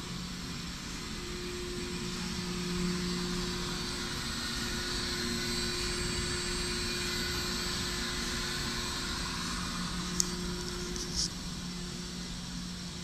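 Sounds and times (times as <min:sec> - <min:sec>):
coffee roaster running: 0:00.0 - 0:13.0.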